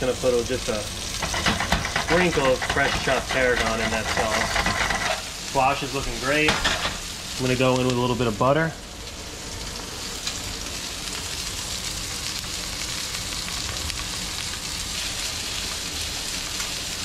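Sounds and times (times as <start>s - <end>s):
food sizzling in frying pans: 0.0s - 17.0s.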